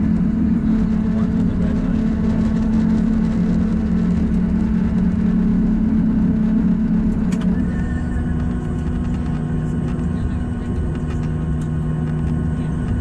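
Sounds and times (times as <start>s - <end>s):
jet engines humming: 0.0s - 13.0s
wheels rumbling on runway: 0.0s - 13.0s.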